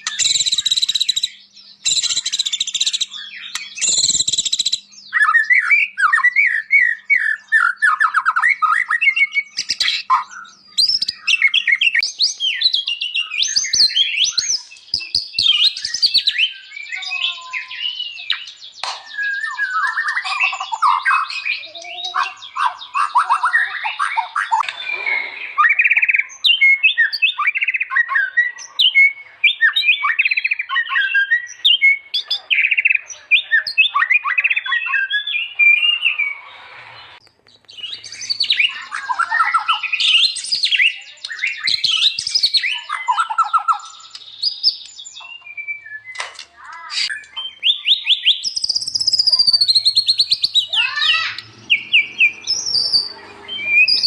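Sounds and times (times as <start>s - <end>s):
songbird singing whistled phrases: 0.0s - 54.0s.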